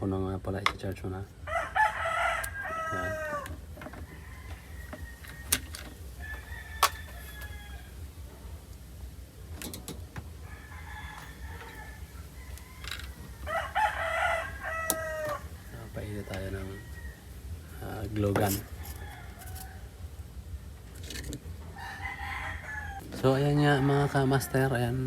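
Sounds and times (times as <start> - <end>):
steady low hum: 0.0 - 25.0
roosters crowing: 1.3 - 25.0.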